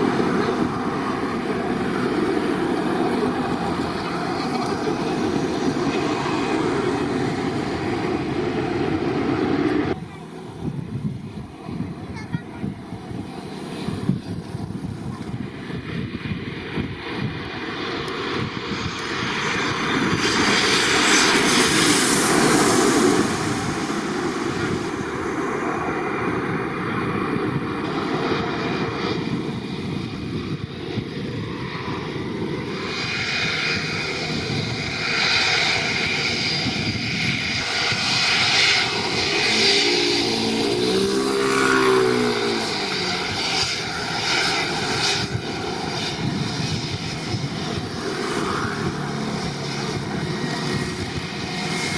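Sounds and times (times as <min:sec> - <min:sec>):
jet takeoff roar: 0:00.0 - 0:51.9
jets landing and taxiing: 0:00.0 - 0:51.9
wavering jet engine whine: 0:00.0 - 0:51.9.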